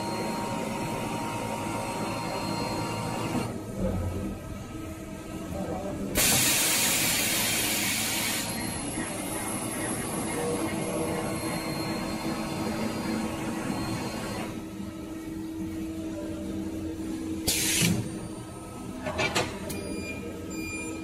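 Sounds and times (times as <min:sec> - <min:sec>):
machine mechanical hum: 0:00.0 - 0:21.0.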